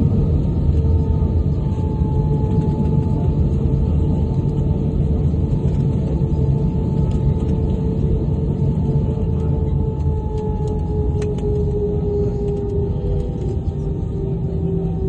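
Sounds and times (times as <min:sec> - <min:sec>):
jet engine low rumble: 0:00.0 - 0:15.0.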